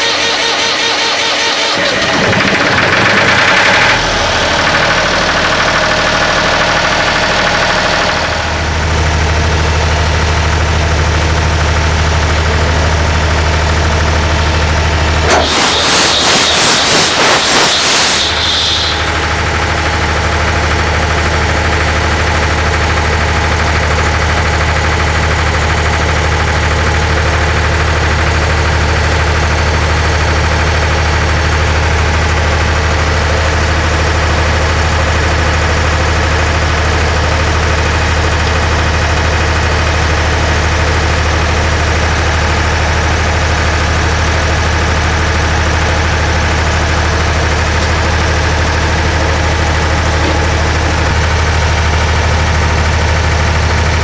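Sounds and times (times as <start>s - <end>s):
diesel generator idling: 0.0s - 54.0s
loud rapid clattering: 0.0s - 54.0s.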